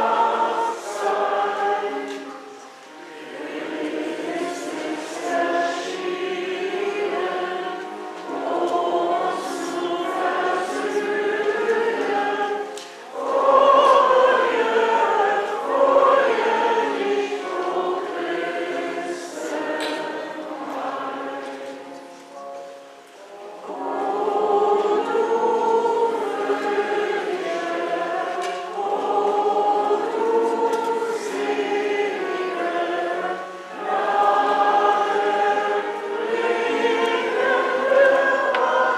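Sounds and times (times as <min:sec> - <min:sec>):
choir breaths: 0:00.0 - 0:38.9
choir singing a hymn: 0:00.0 - 0:38.9.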